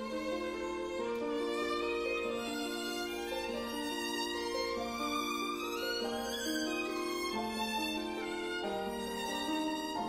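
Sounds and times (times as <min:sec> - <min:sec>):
violin playing slow melody: 0:00.0 - 0:10.0.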